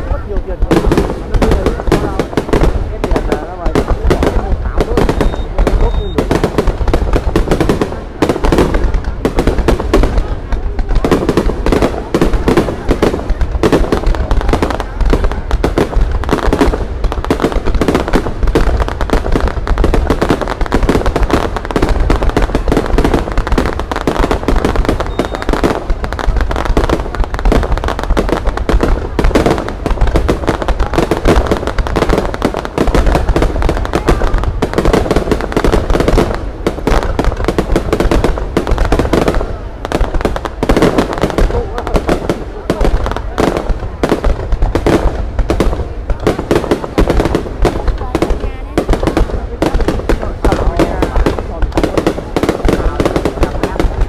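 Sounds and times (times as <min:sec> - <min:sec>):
fireworks bangs and crackles: 0:00.0 - 0:54.0
voices: 0:00.0 - 0:54.0.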